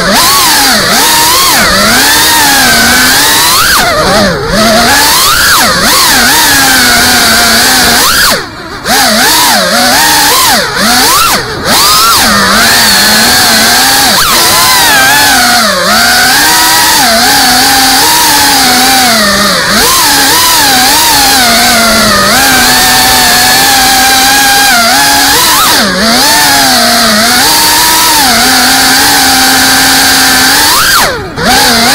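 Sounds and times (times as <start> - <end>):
quadcopter motors whining: 0.0 - 31.9.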